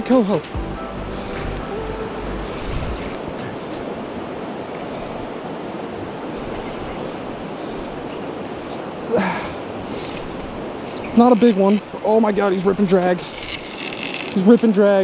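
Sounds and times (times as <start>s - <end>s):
river rushing over rocks: 1.2s - 13.3s.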